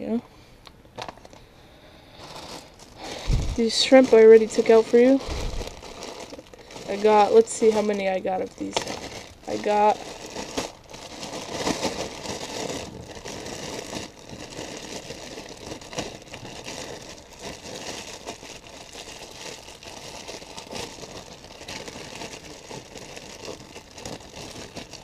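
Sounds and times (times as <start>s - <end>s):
plastic bag crinkling: 0.9s - 1.5s, 2.1s - 25.0s.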